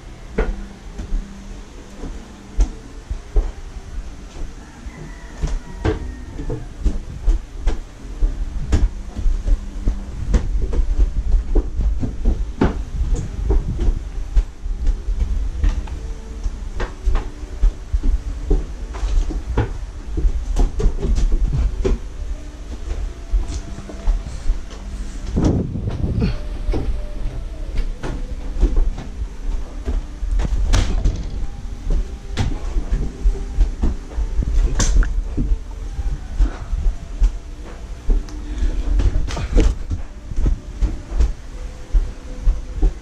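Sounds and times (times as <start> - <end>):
person moving around quickly: 0.0 - 43.0
low rumble of camera jostling: 5.5 - 43.0.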